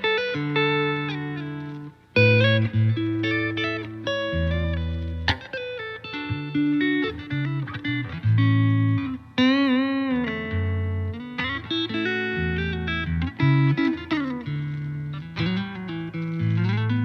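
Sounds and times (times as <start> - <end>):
electric guitar plucked notes: 0.0 - 17.0.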